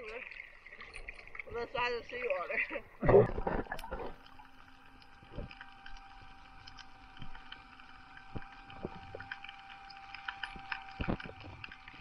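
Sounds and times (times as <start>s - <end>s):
faint underwater hum: 0.0s - 12.0s
small clicks and crackles: 0.0s - 12.0s.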